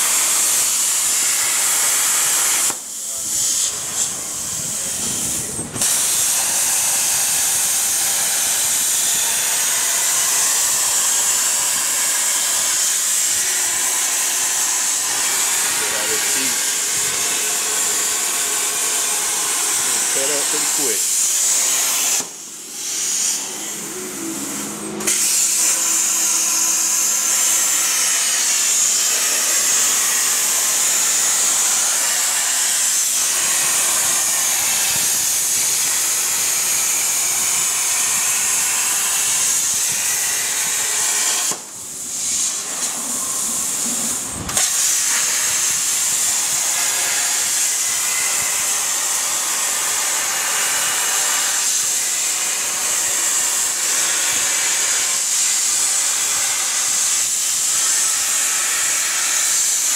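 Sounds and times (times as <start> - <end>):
plasma torch hissing: 0.0 - 59.9.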